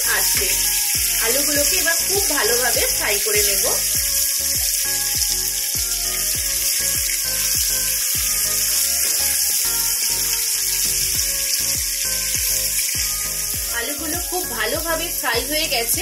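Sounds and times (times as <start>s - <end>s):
background music with a beat: 0.0s - 16.0s
potatoes sizzling in hot oil: 0.0s - 16.0s.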